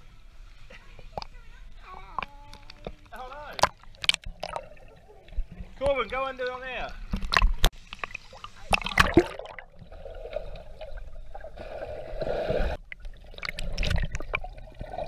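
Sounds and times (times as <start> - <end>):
pool water splashing: 0.0 - 15.0
underwater churning and bubbling: 2.2 - 6.2, 6.9 - 15.0.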